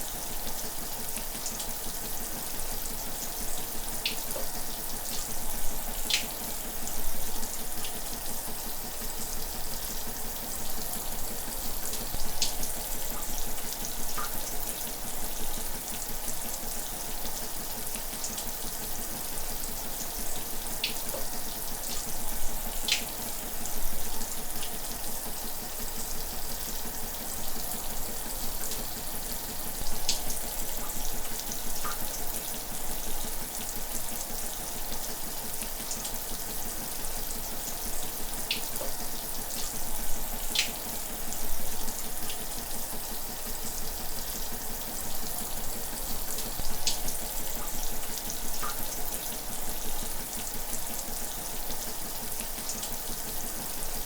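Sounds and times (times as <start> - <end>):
shower running: 0.0 - 54.0.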